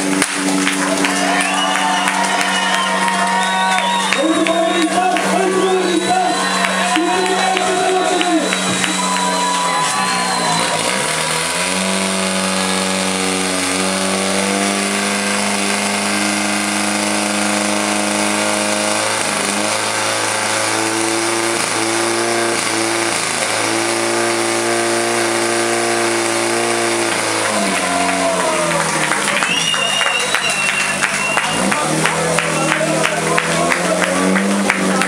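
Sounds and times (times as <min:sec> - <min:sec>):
fire pump engine running: 0:00.0 - 0:35.0.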